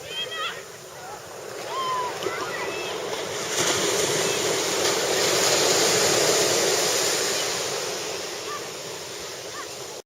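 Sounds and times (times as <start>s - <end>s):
ocean wave breaking: 0.0s - 10.0s.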